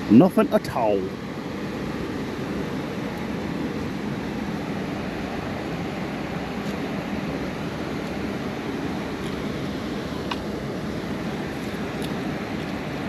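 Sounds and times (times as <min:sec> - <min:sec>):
water rushing through spillway: 0:00.0 - 0:13.0.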